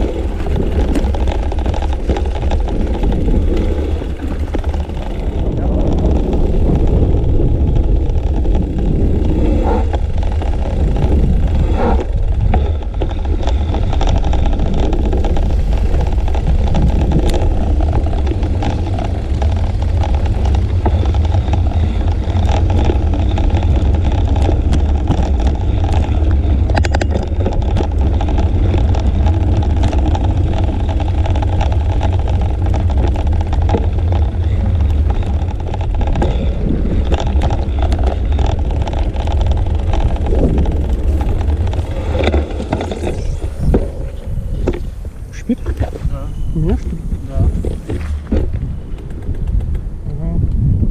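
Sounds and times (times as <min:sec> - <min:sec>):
road noise: 0:00.0 - 0:50.9
wind rumbling on microphone: 0:00.0 - 0:50.9.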